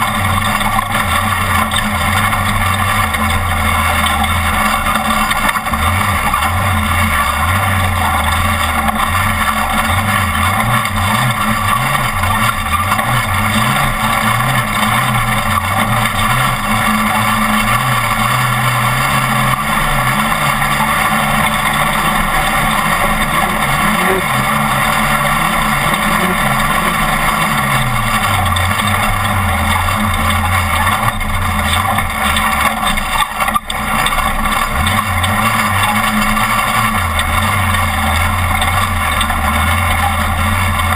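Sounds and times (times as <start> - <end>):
road and wind noise: 0.0 - 40.9
truck engine running hard: 0.0 - 40.9.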